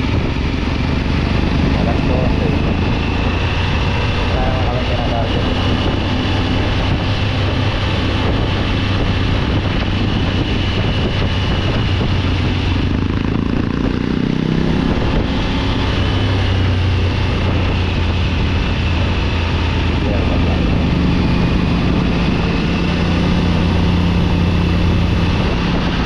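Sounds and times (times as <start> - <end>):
motorcycle engine running: 0.0 - 26.0
wind noise on microphone: 0.0 - 26.0.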